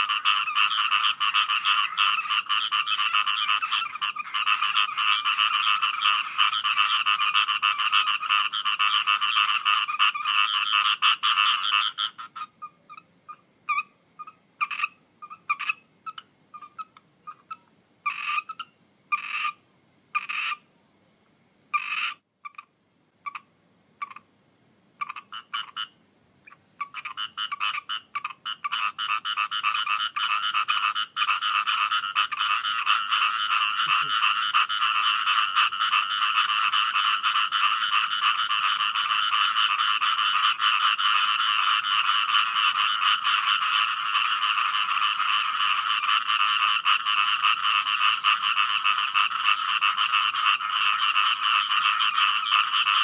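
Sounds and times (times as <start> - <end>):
frogs calling: 0.0 - 53.0.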